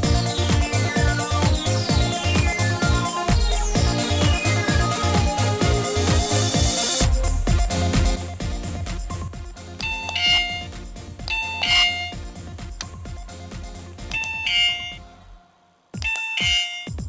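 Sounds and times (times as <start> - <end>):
electronic music with steady beat: 0.0 - 17.0.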